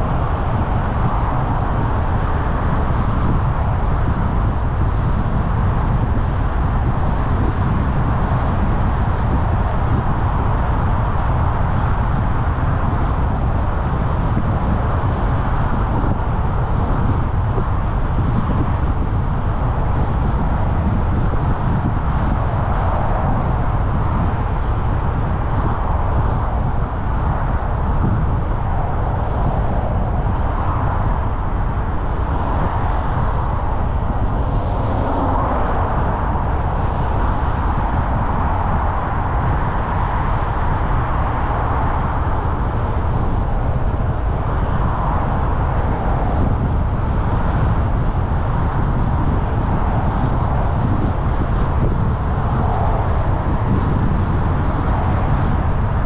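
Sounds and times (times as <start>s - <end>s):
vehicle driving on road: 0.0s - 56.0s.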